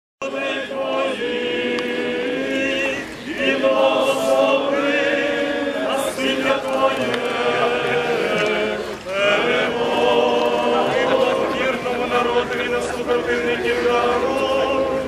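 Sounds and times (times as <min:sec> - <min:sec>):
choir singing a chant: 0:00.2 - 0:15.0.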